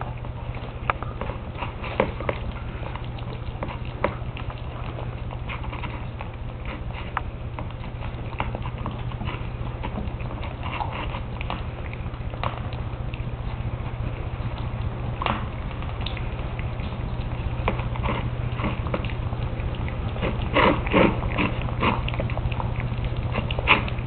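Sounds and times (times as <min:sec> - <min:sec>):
puppies eating from plastic dish: 0:00.0 - 0:24.0
steady low hum: 0:00.0 - 0:24.0.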